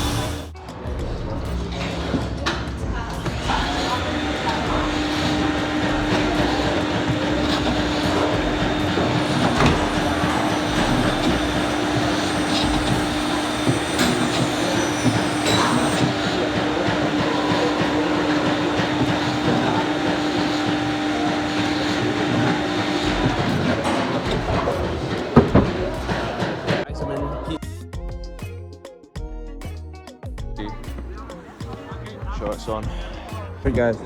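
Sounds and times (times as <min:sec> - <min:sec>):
workshop machinery humming: 0:00.0 - 0:26.9, 0:31.3 - 0:34.0.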